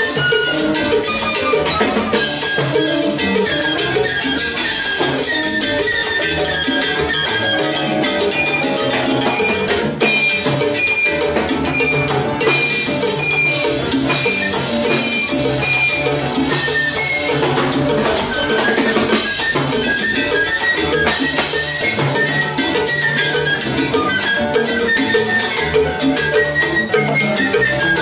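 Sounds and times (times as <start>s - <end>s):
flute solo: 0.0s - 28.0s
salsa band playing: 0.0s - 28.0s.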